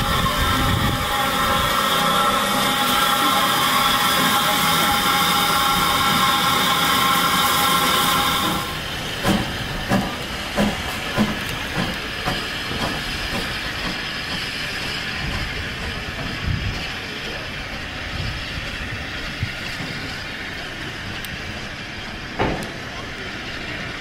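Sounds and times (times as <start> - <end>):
steam locomotive hissing: 0.0 - 24.0.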